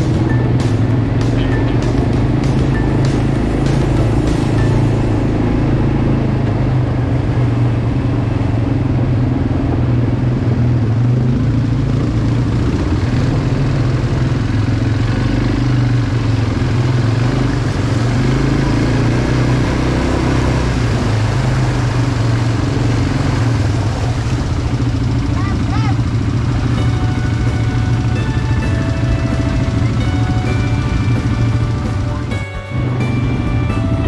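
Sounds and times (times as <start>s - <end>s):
quad bike engine droning: 0.0s - 34.0s.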